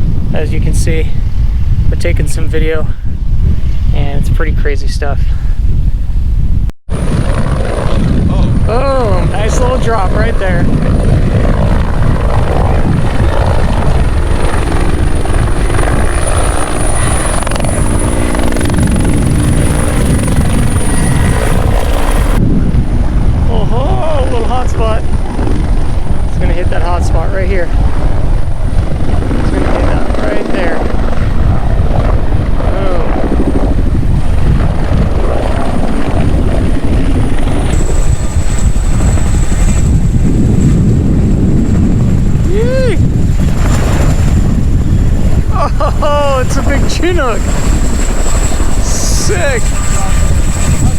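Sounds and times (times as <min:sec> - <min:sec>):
helicopter rotor and turbine: 0:00.0 - 0:50.9.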